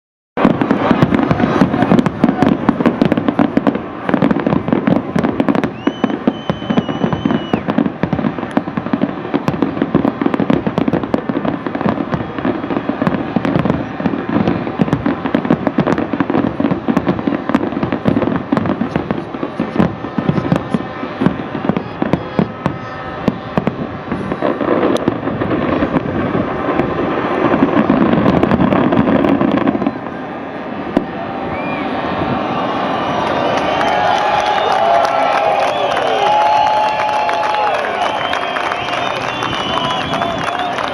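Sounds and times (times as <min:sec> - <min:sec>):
firework whistle: 0:00.4 - 0:40.9
fireworks crackling and banging: 0:00.4 - 0:40.9.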